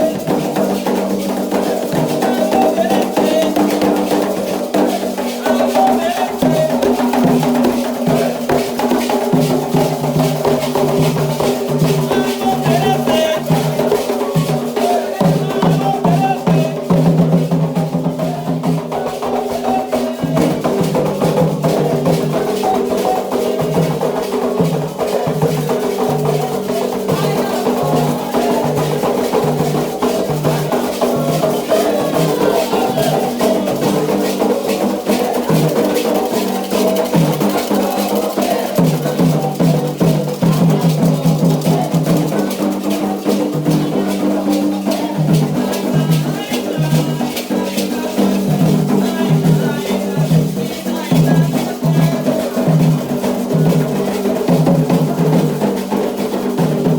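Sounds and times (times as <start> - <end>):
group chanting: 0.0 - 56.9
hand drums playing rhythm: 0.0 - 56.9
shakers: 0.0 - 56.9.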